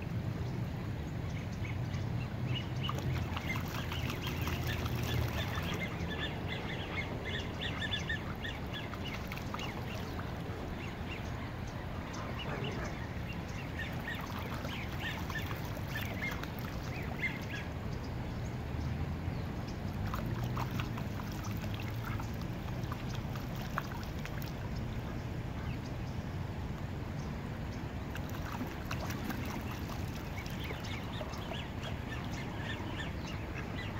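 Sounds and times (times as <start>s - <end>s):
ducks splashing in water: 2.4s - 25.8s, 27.9s - 33.9s.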